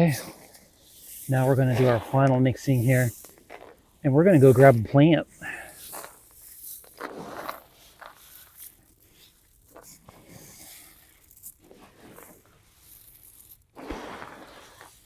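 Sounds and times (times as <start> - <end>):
soil mix crunching when stirred: 0.1 - 15.0.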